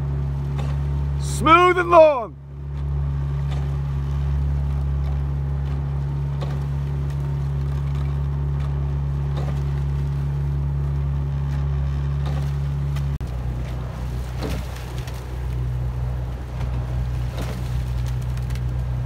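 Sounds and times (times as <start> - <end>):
motorboat engine humming: 0.0 - 19.0.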